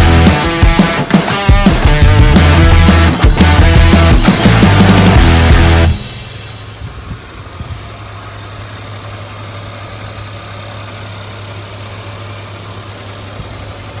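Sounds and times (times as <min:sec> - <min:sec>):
car engine idling with misfire: 0:00.0 - 0:14.0.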